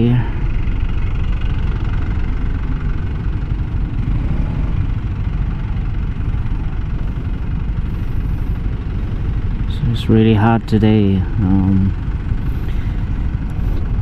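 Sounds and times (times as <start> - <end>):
city traffic: 0.0 - 14.0
motorcycle engine idling: 0.0 - 14.0.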